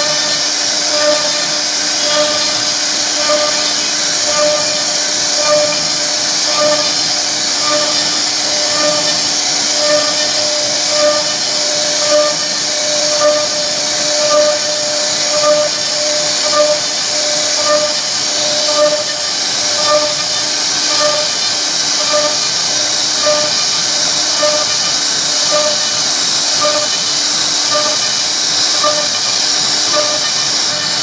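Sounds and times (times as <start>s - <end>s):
router spindle cutting wood: 0.0s - 31.0s.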